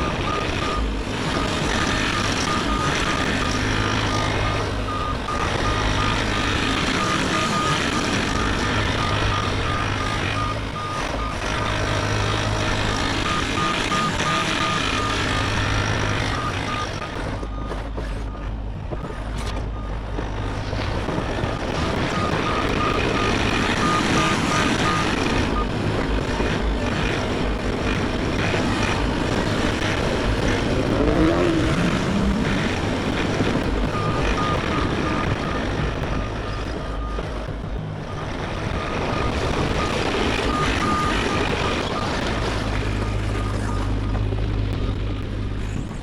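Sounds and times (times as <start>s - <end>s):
travel alarm beeping: 0.0s - 20.0s, 21.1s - 30.4s, 31.0s - 45.3s
excavator diesel engine running: 0.0s - 46.0s.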